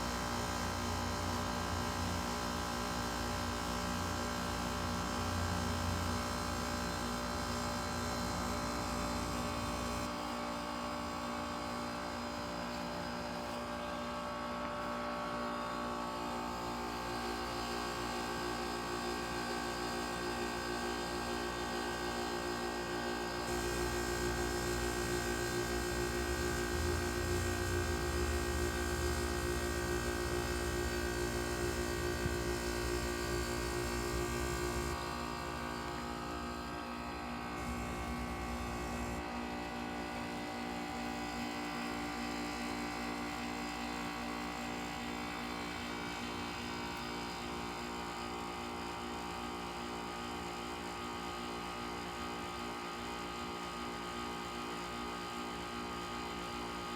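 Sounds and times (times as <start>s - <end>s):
heat pump humming: 0.0s - 51.5s.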